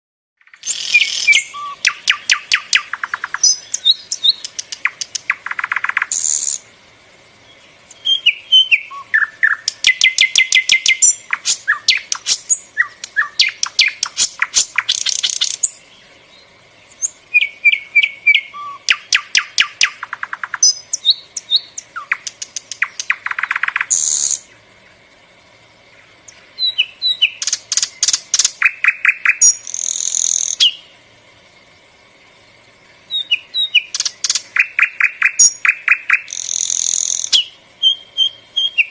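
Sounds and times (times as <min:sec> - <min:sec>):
bird singing trills and whistles: 0:00.4 - 0:06.6, 0:07.4 - 0:25.0, 0:25.9 - 0:31.0, 0:32.8 - 0:38.9.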